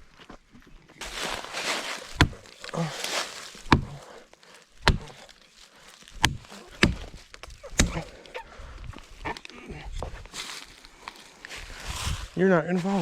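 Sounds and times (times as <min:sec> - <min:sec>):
footsteps on forest floor: 0:00.0 - 0:13.0.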